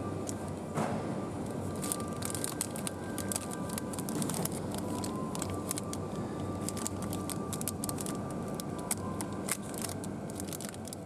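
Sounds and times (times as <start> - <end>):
supermarket background hum: 0.0 - 11.0
wrapper crinkling: 1.4 - 11.0.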